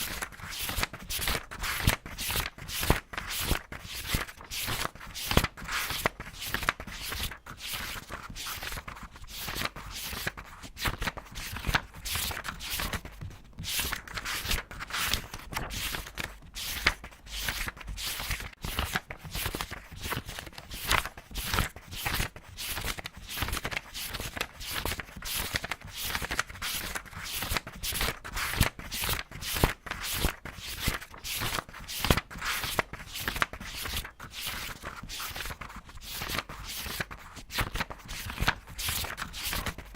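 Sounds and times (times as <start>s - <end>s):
paper pages turning quickly: 0.0s - 39.9s.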